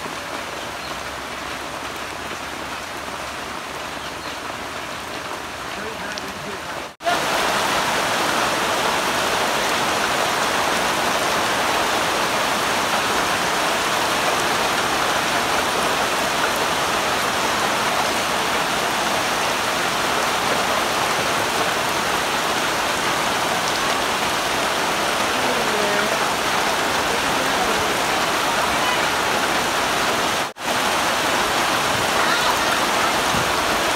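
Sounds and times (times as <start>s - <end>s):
heavy rain on water: 0.0s - 33.9s.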